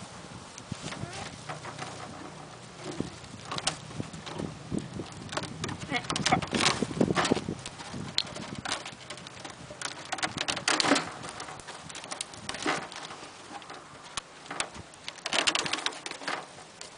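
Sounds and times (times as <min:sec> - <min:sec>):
plastic sheet rustling: 0:00.0 - 0:16.9
wire cage rattling: 0:00.7 - 0:16.9.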